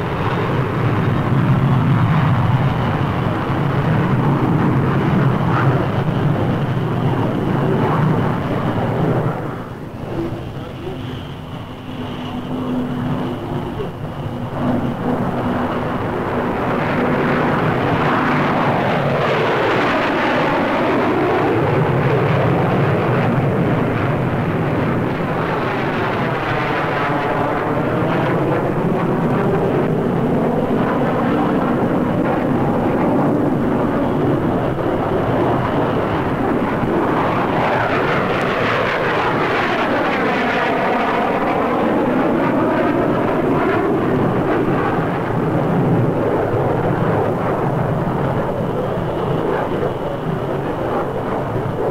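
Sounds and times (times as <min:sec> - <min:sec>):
jet aircraft flying past: 0:00.0 - 0:51.9.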